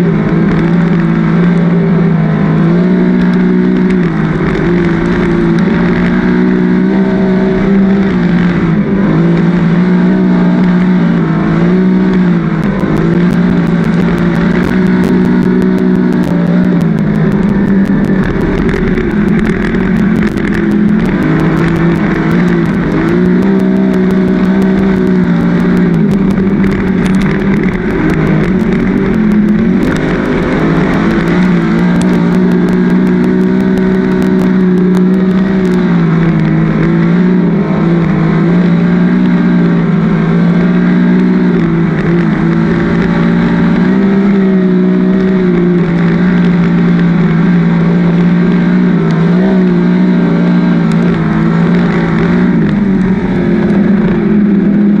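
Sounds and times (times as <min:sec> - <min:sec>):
race car engine: 0:00.0 - 0:55.0
ticks of flying dirt: 0:00.0 - 0:55.0.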